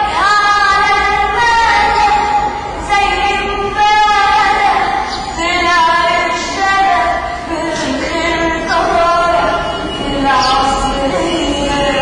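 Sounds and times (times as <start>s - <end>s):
boy singing into a microphone: 0.0s - 12.0s.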